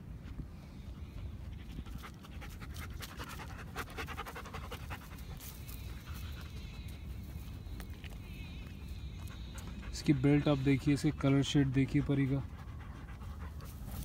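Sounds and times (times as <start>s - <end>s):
dog panting: 1.1s - 14.0s.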